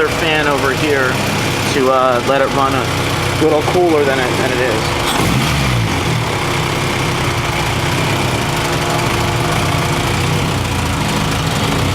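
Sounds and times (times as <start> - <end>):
car engine idling: 0.0 - 11.9
radiator cooling fan running: 0.0 - 11.9.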